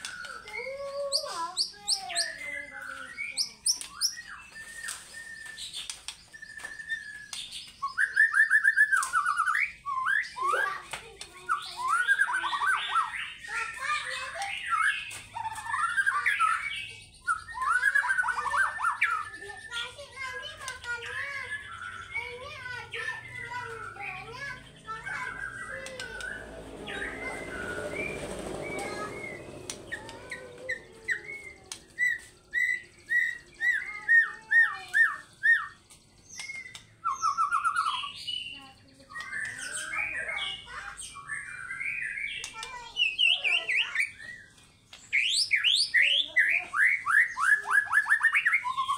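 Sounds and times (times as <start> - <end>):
bird singing whistled notes: 0.0 - 10.8, 11.5 - 22.3, 22.9 - 48.9.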